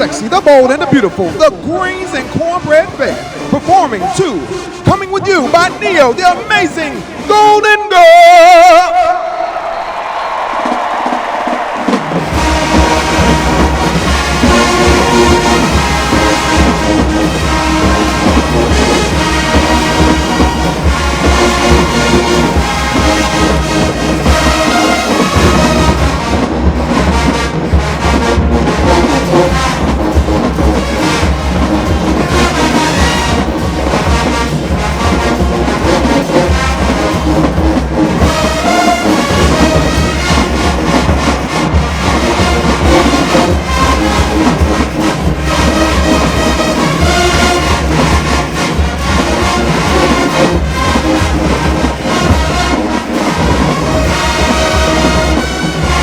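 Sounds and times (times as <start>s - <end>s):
brass instruments: 0.0s - 56.0s
heavy low drum line: 0.0s - 56.0s
marching band playing: 0.0s - 56.0s.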